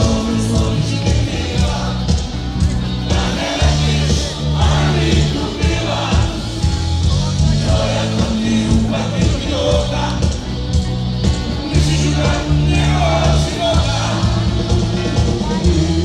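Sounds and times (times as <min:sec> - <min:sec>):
lead vocal singing: 0:00.0 - 0:16.0
live rock band through pa: 0:00.0 - 0:16.0.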